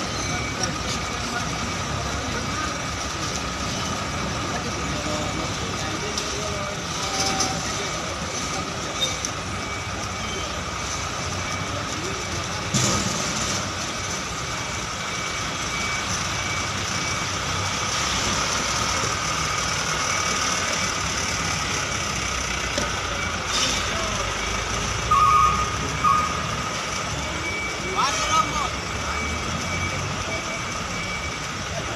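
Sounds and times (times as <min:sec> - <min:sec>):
diesel truck running: 0:00.0 - 0:31.9
reversing alarm beeps: 0:00.0 - 0:31.9.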